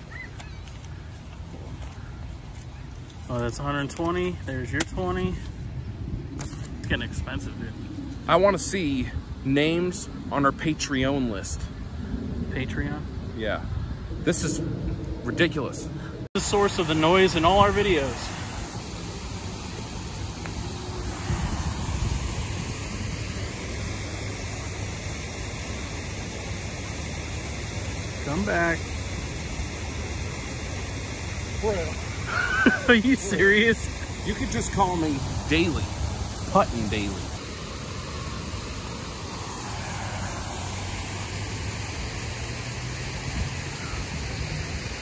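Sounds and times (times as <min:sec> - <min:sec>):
steady rushing hiss: 0:00.0 - 0:45.0
wind rumbling on microphone: 0:00.0 - 0:45.0.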